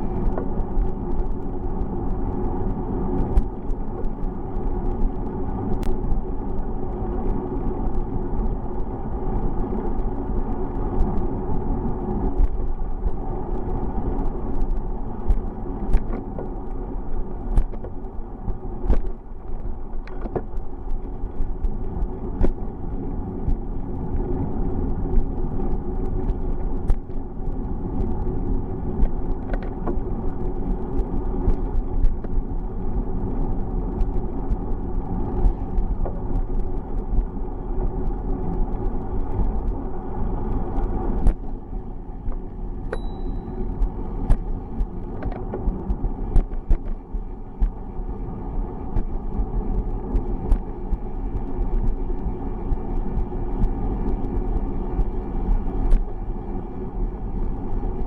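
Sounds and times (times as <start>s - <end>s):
small sharp clicks and rattles: 0.0s - 47.8s
bicycle road and wind rumble: 0.0s - 58.0s.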